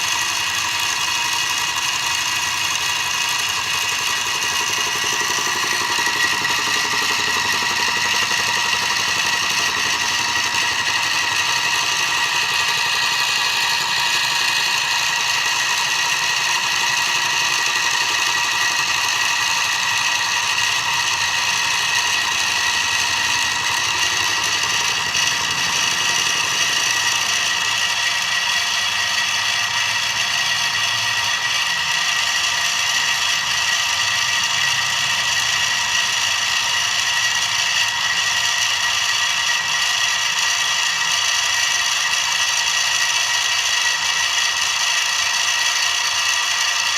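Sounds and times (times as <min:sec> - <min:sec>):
milling machine whining: 0:00.0 - 0:46.9.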